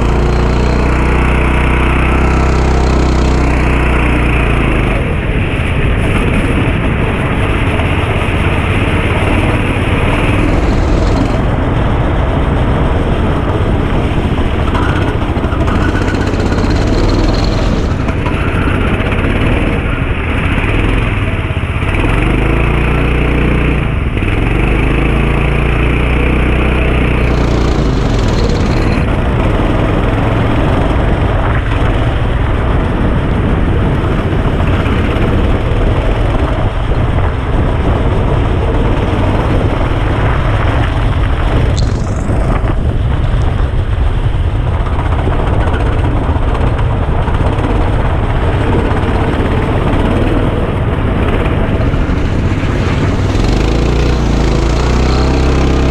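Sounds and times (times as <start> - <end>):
kart engine at high revs: 0.0 - 55.9.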